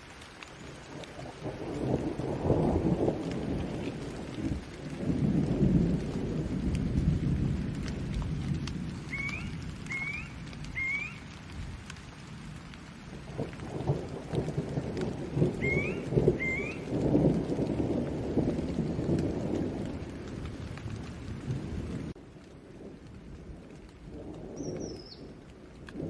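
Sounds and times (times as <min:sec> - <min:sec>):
steady rain: 0:00.0 - 0:26.0
rolling thunder: 0:00.8 - 0:26.0.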